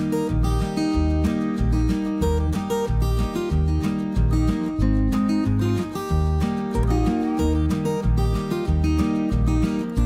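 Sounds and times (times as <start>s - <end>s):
low bass notes: 0.0s - 10.0s
strummed acoustic guitar: 0.0s - 10.0s.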